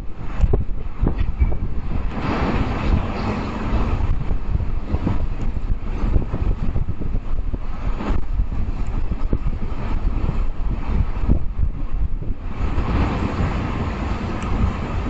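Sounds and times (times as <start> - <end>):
vehicle traffic rumble: 0.0 - 15.0
wind buffeting microphone: 0.0 - 15.0.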